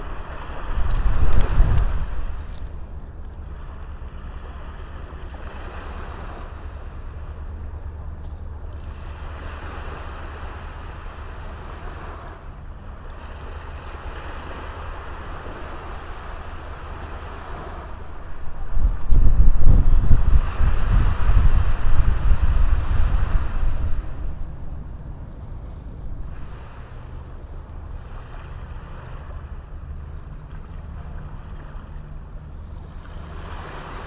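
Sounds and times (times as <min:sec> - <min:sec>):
low rumble: 0:00.0 - 0:10.9, 0:15.8 - 0:33.5
sea waves washing onto beach: 0:00.0 - 0:34.0.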